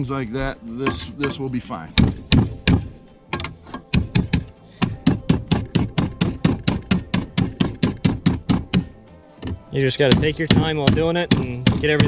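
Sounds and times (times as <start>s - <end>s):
hammer tapping on sheet steel: 0.8s - 12.0s.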